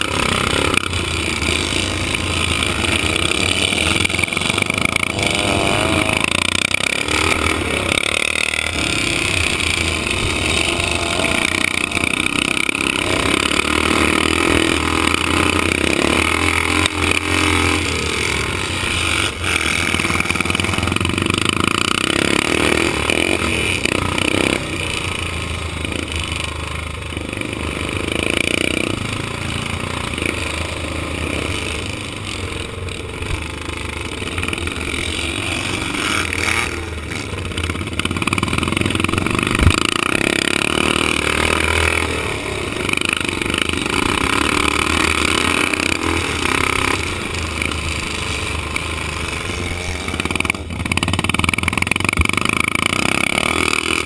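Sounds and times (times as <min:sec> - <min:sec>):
motocross motorcycle engine: 0:00.0 - 0:54.0.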